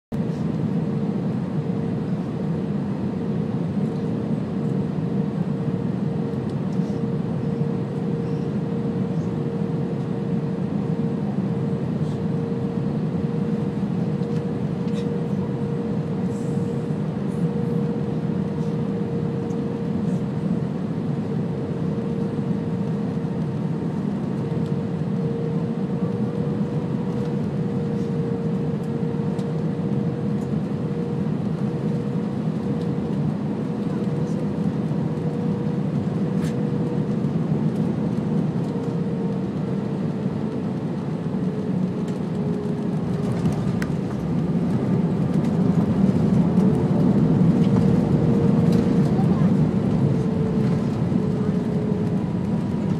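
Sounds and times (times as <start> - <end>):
airplane cabin engine and air rush: 0.1 - 52.9.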